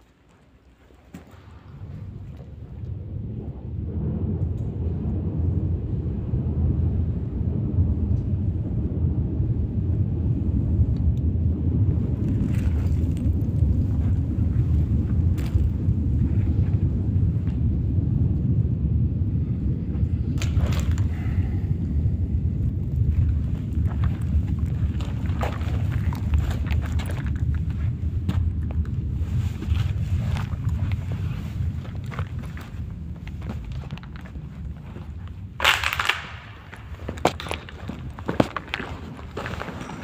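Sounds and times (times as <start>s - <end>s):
loud low rumble: 1.5s - 35.6s.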